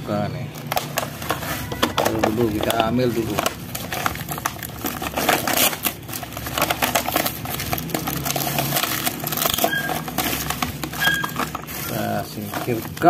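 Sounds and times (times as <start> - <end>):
plastic and cardboard crinkling: 0.0 - 13.0.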